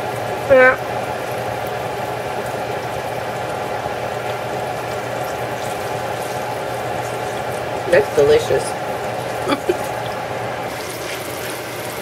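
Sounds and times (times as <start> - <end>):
oil crackling: 0.0 - 12.0
zucchini frying in hot oil: 0.0 - 12.0.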